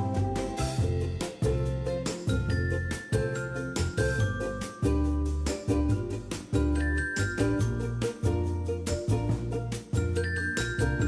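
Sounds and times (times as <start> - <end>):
bright children's tune: 0.0 - 11.0.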